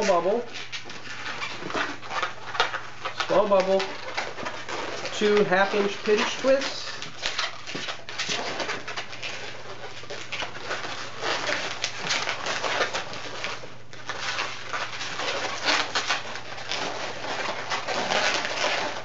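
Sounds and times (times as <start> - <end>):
balloon rubber squeaks: 0.0 - 19.0.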